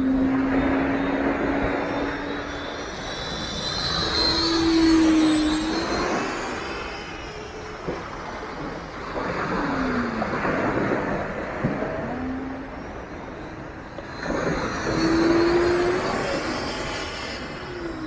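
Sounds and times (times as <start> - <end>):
electric ducted fan whining: 0.0 - 18.0.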